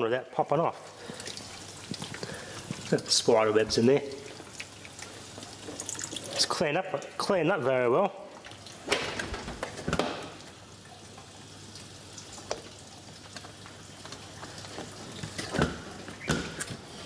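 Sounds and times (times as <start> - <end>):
water spraying inside dishwasher: 0.7 - 7.4, 8.4 - 17.0.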